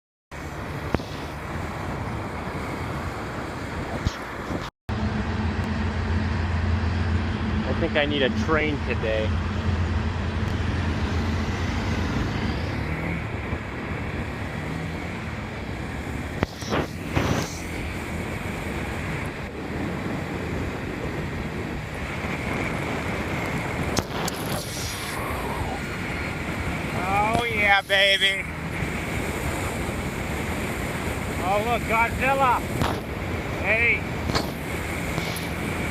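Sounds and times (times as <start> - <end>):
motorcycle engine rumble: 0.3 - 35.9
wind and road noise: 0.3 - 35.9.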